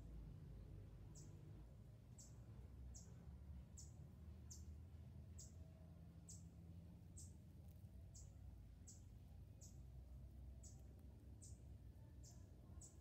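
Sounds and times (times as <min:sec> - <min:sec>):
faint low rumble: 0:00.0 - 0:13.0
faint high chirps: 0:01.1 - 0:01.4, 0:02.1 - 0:13.0.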